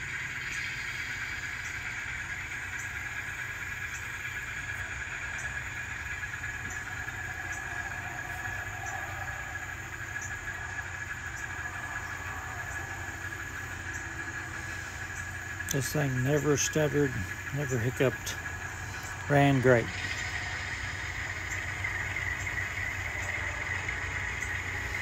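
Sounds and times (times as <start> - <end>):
model diesel engine drone: 0.0 - 25.0.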